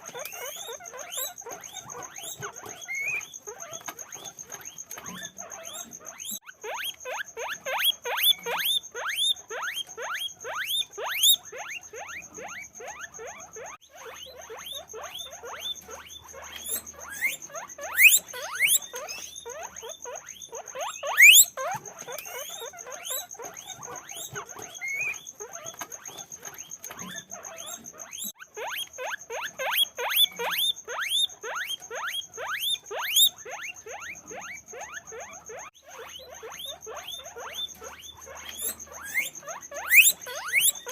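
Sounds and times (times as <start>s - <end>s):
guinea pigs squeaking: 0.0s - 40.9s.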